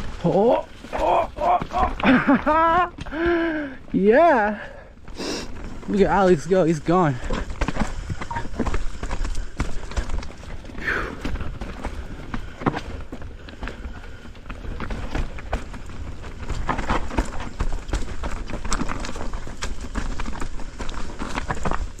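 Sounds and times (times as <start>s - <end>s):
mountain bike clattering over trail: 0.0s - 4.7s, 5.5s - 22.0s.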